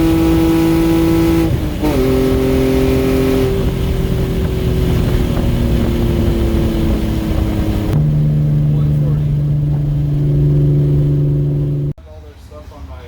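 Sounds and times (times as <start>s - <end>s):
car engine running under load: 0.0s - 12.0s.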